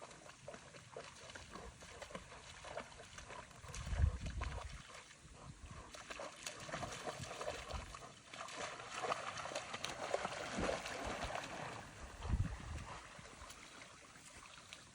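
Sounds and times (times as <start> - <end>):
water splashing and trickling: 0.0 - 14.9.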